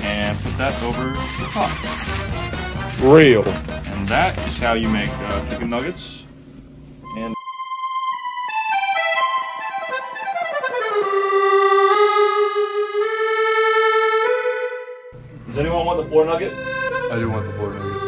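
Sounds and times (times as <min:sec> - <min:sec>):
accordion music: 0:00.0 - 0:06.2, 0:07.0 - 0:18.0.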